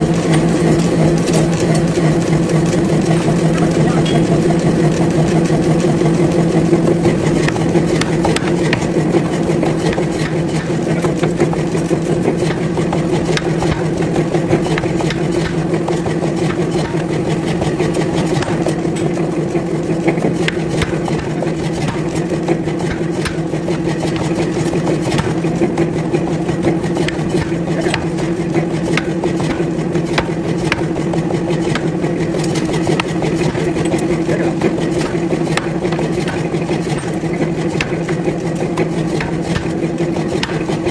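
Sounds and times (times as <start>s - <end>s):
forging machinery humming: 0.0s - 40.9s
metal knocks and clanks: 0.2s - 40.9s.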